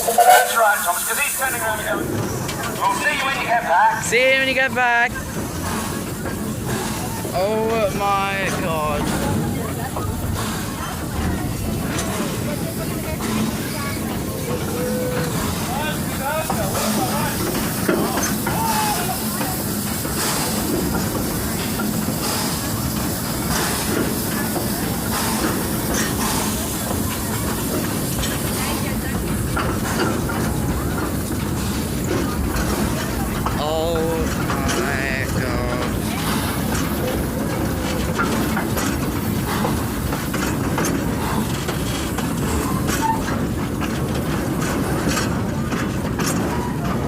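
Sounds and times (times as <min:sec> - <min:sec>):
steam hissing: 0:00.0 - 0:47.0
steam locomotive exhaust chuffs: 0:00.0 - 0:47.0
wagon rumbling on rails: 0:00.0 - 0:47.0.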